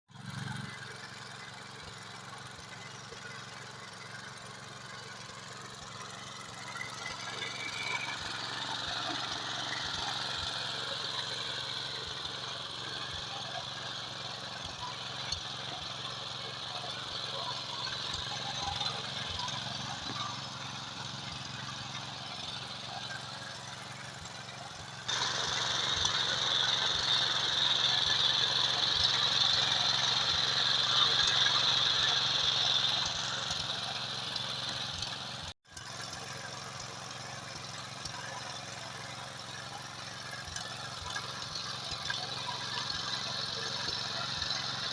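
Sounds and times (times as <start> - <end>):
tractor engine running: 0.1 - 44.9.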